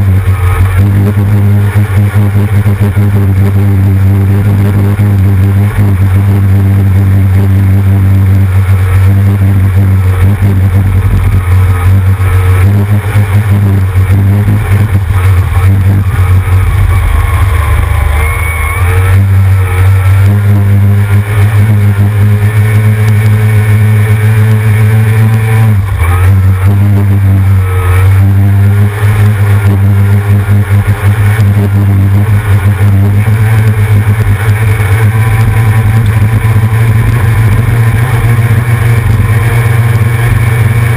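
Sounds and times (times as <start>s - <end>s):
outboard motor running hard: 0.0s - 40.9s.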